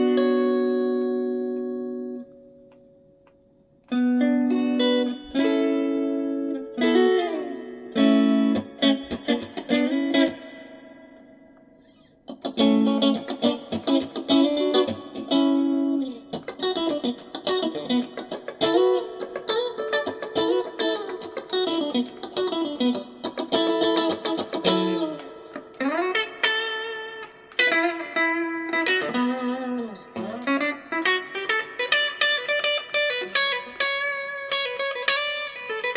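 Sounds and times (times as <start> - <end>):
electric guitar notes and chords: 0.0 - 35.9.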